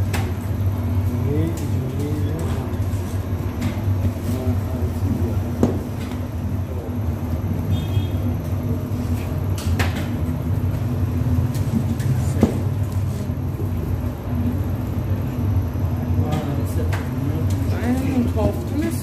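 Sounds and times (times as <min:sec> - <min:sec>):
bakery machinery hum: 0:00.0 - 0:19.0.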